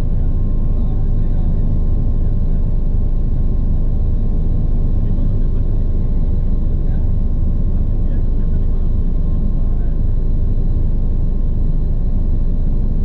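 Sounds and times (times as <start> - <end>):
helicopter rotor and engine rumble: 0.0 - 13.0
thin steady whine: 0.0 - 13.0.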